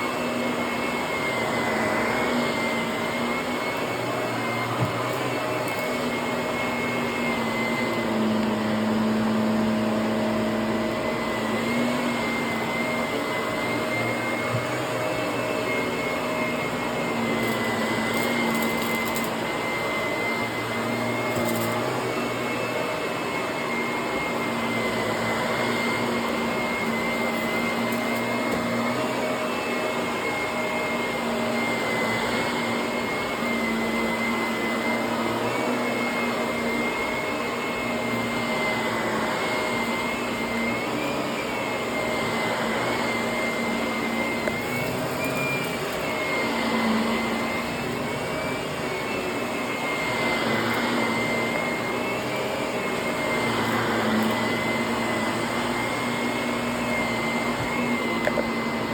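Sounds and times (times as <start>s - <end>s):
vacuum cleaner running over carpet: 0.0s - 58.9s.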